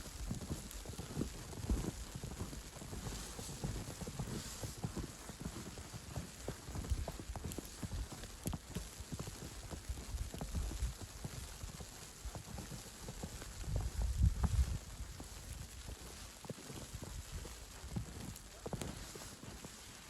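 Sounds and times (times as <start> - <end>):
faint hiss: 0.0 - 20.0
footsteps crunching in snow: 0.0 - 20.0.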